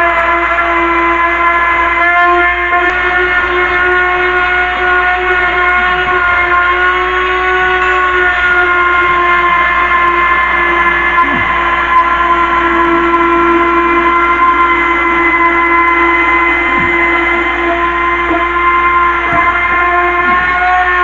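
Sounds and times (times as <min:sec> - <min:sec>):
loud machine whine: 0:00.0 - 0:21.0.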